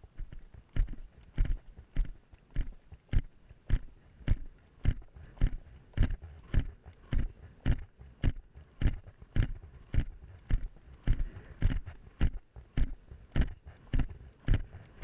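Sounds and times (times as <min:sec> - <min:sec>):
camera rattling on helmet: 0:00.2 - 0:15.0.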